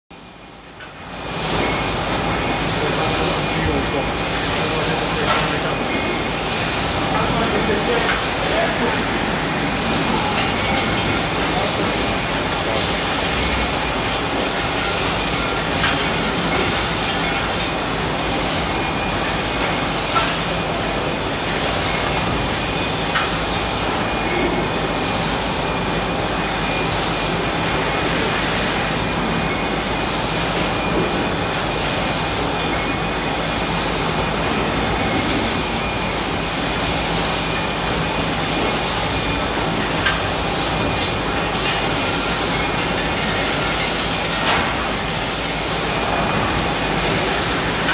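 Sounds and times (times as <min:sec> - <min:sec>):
packing machine hum and clatter: 0:00.2 - 0:47.9.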